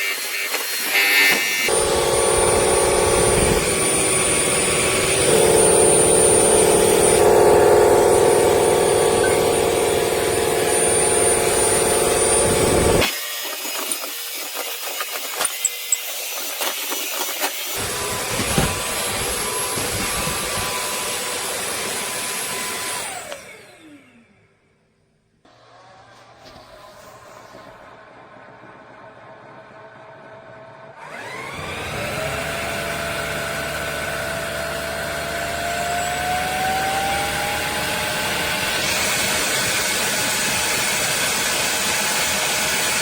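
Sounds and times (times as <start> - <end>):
floor vacuum motor whine: 0.0 - 24.7, 25.5 - 43.0.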